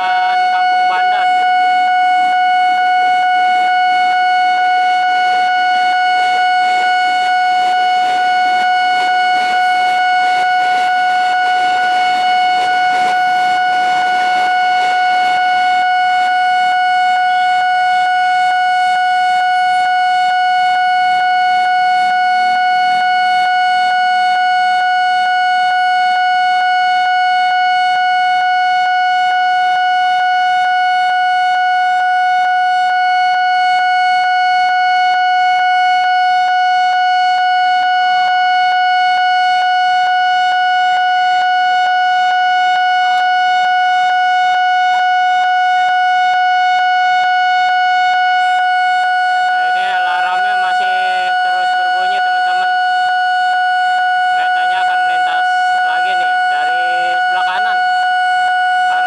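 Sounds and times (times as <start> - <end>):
level crossing alarm tone: 0.0 - 59.0.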